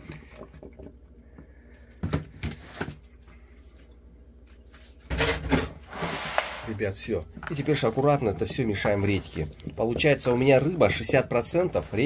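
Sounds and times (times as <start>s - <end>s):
knocks and scrapes of containers: 0.0s - 3.1s, 4.9s - 12.0s
faint steady hum: 0.0s - 12.0s.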